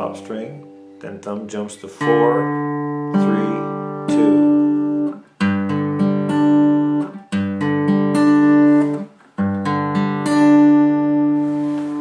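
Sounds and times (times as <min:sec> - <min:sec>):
acoustic guitar fingerpicking: 0:00.0 - 0:12.0.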